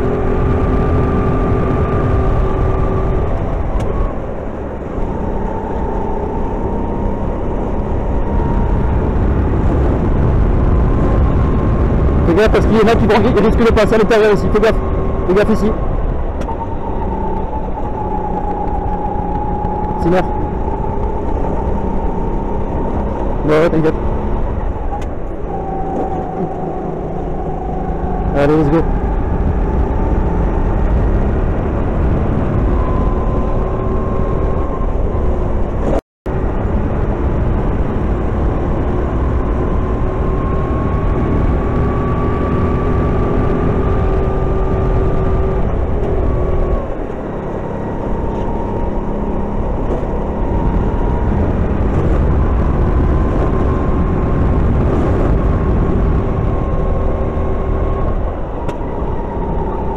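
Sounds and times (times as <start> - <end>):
go-kart engine accelerating: 0.0 - 59.9
wind rumble: 0.0 - 59.9.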